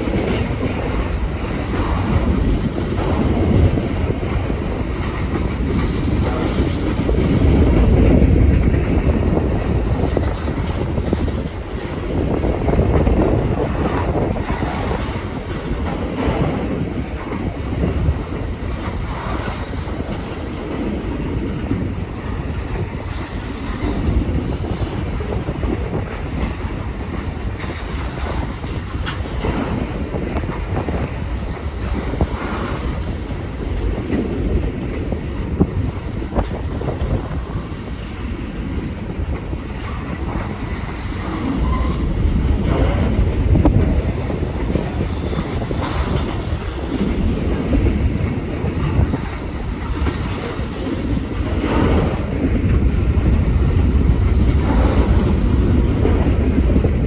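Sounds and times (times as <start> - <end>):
train cars rumbling past: 0.0 - 57.0
train wheel clatter: 0.0 - 57.0.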